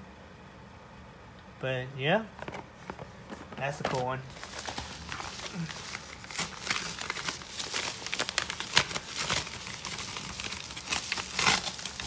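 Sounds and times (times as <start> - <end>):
padded envelope crinkling: 2.3 - 12.0.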